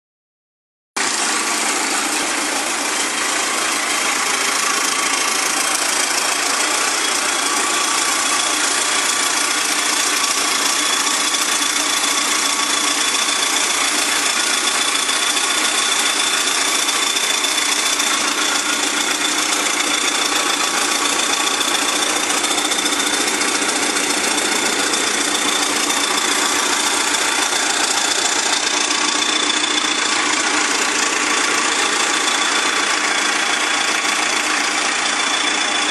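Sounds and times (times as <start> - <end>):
tractor diesel engine running: 1.0 - 35.9.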